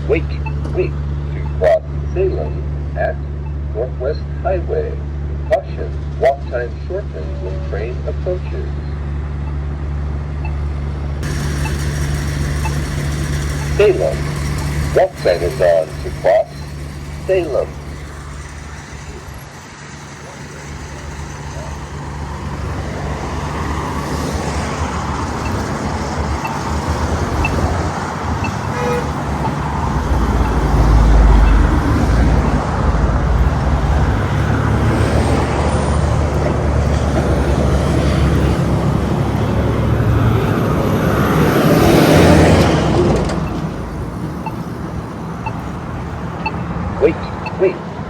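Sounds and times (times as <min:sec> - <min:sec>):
heavy vehicles rumbling by: 0:00.0 - 0:48.0
cars rushing past: 0:09.0 - 0:48.0.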